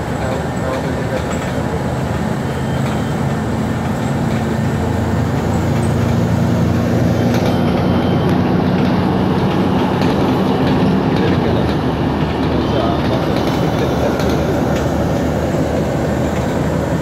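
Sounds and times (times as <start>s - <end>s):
bus engine hum: 0.0s - 17.0s
road noise: 0.0s - 17.0s.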